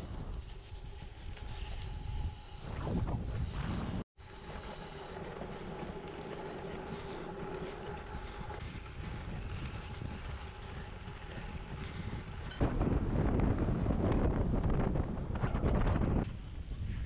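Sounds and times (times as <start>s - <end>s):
bicycle tyres rolling: 0.0s - 17.0s
wind buffeting microphone: 0.0s - 17.0s.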